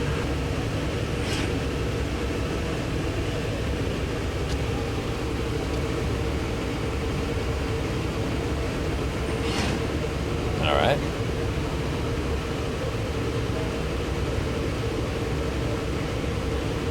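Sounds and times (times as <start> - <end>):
lathe humming with steady tone: 0.0 - 16.9.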